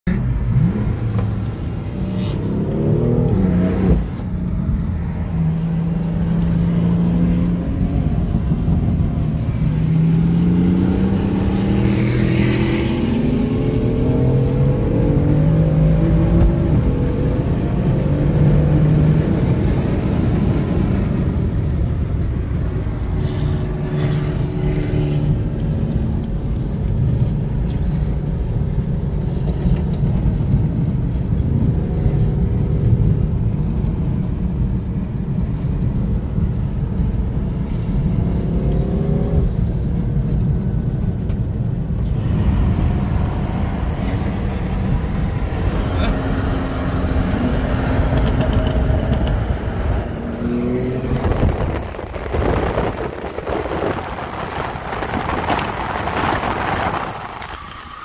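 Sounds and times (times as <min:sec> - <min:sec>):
car engine revving: 0:00.1 - 0:33.5, 0:37.9 - 0:58.0.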